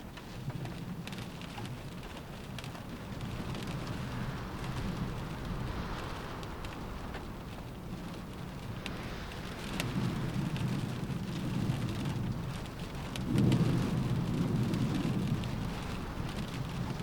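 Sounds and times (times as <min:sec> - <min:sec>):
rain on a car roof: 0:00.0 - 0:17.0
low rumble: 0:02.9 - 0:17.0.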